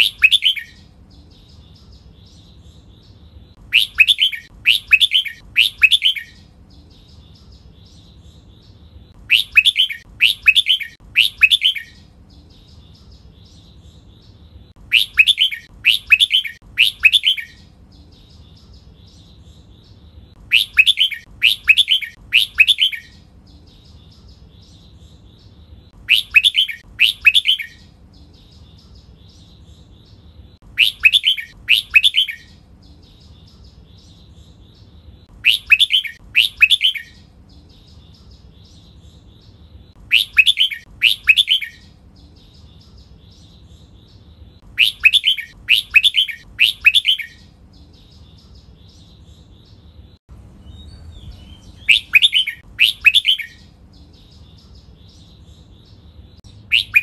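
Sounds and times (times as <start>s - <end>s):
soft bird chirping: 0.0s - 57.0s.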